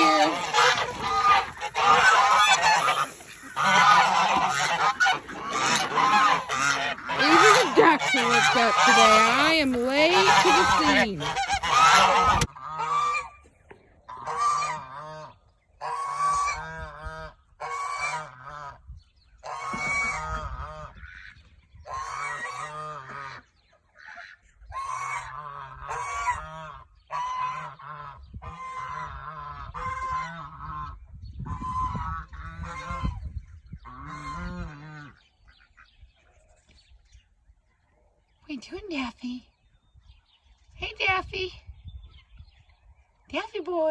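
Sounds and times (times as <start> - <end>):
geese honking: 0.0 - 36.0.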